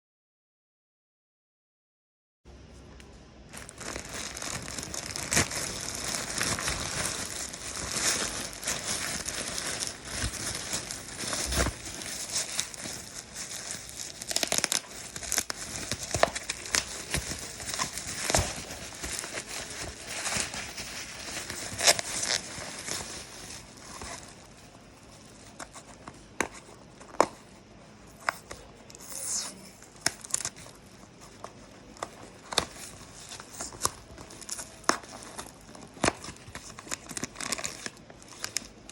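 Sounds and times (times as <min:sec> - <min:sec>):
plastic crinkling and rustling: 0:03.5 - 0:38.9.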